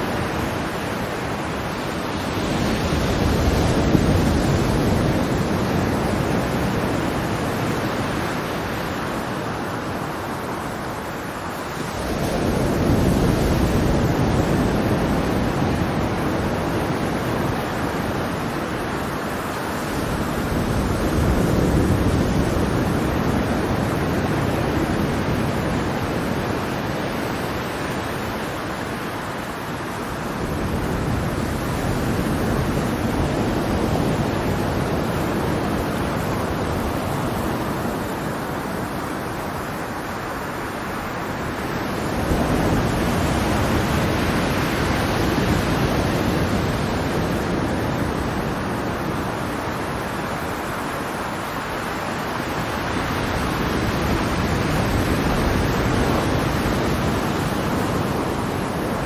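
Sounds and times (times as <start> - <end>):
ocean surf washing ashore: 0.0 - 59.0.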